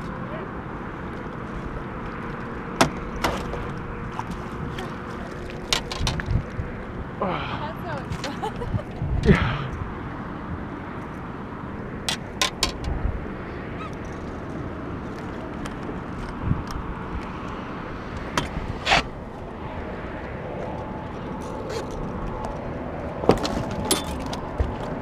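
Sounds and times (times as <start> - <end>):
wind and water noise: 0.0 - 25.0.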